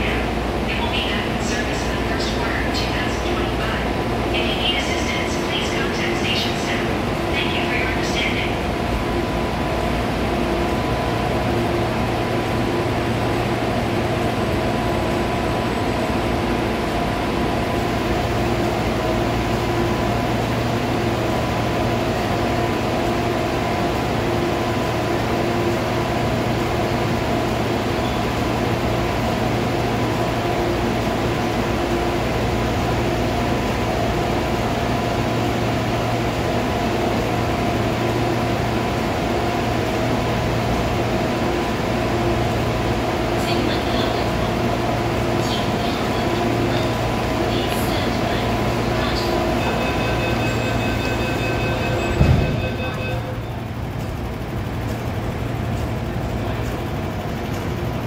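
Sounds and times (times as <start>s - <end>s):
train air-conditioning humming: 0.0s - 58.0s.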